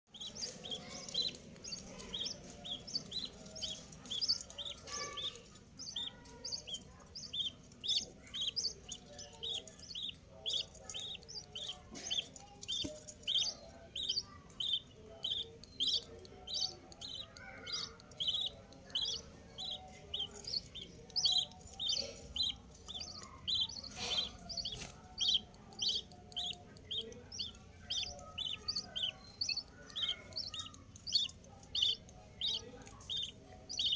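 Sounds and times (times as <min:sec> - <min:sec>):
budgerigars chirping: 0:00.1 - 0:33.9
low chattering warble: 0:00.1 - 0:33.9.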